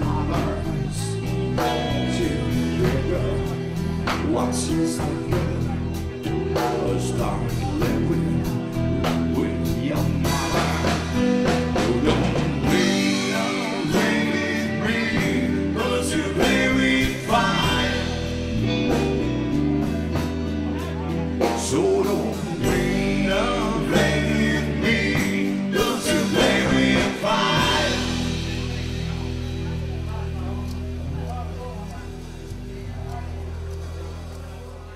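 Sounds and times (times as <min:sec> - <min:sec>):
person singing: 0:00.0 - 0:19.9, 0:21.0 - 0:30.7
bass guitar: 0:00.0 - 0:34.9
drums: 0:00.0 - 0:34.9
electric guitars: 0:00.0 - 0:34.9
keyboards: 0:00.0 - 0:34.9.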